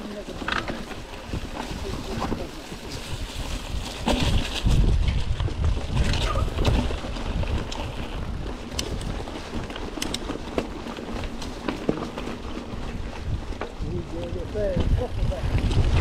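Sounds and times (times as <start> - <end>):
bike clicks and rattles: 0.0 - 16.0
wind rumble on microphone: 0.0 - 16.0.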